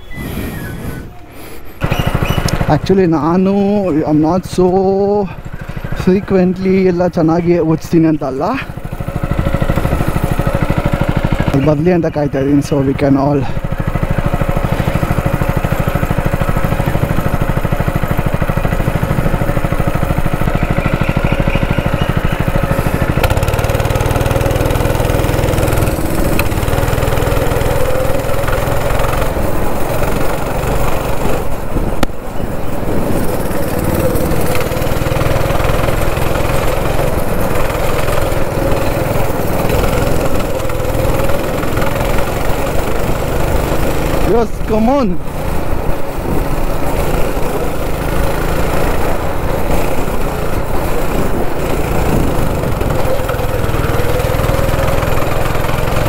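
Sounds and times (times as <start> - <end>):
go-kart engine: 0.0 - 56.0.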